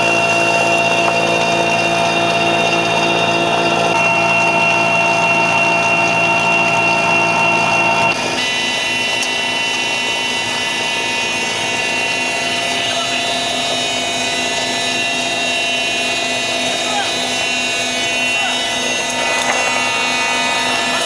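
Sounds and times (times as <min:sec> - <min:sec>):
helicopter engine whine: 0:00.0 - 0:21.0.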